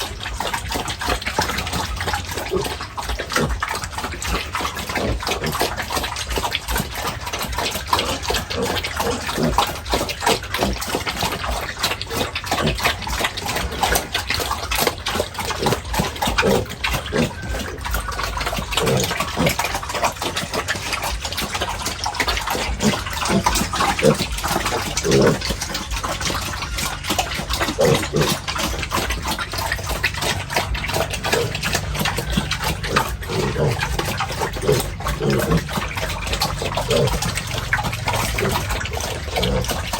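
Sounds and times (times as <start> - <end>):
pigs grunting: 0.0 - 39.9
water gushing and splashing: 0.0 - 39.9.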